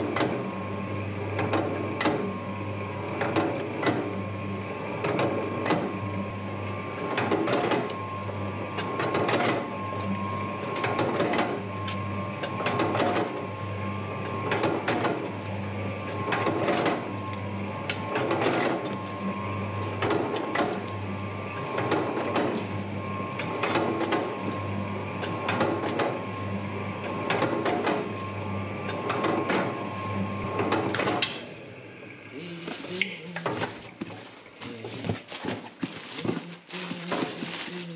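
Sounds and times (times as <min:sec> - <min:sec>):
mixer motor hum: 0:00.0 - 0:37.9.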